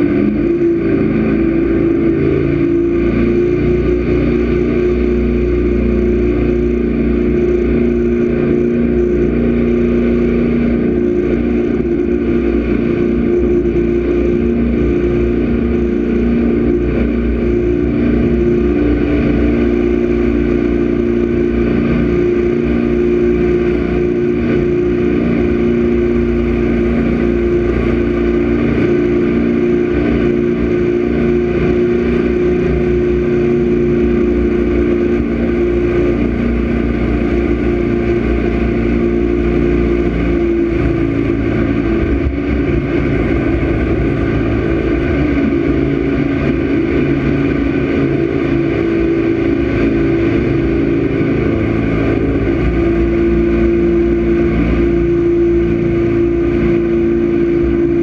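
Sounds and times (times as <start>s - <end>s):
boat engine running hard: 0.0s - 58.0s
wind and water rushing: 0.0s - 58.0s.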